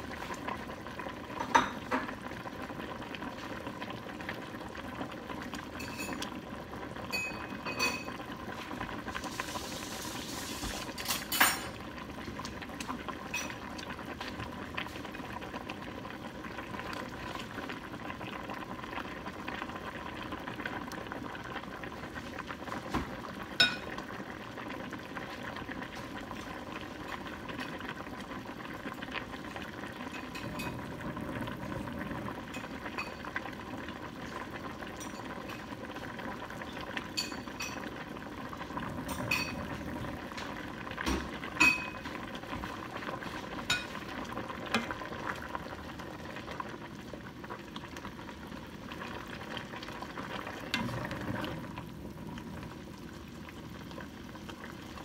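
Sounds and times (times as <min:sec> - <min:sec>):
soup bubbling at a boil: 0:00.0 - 0:55.0.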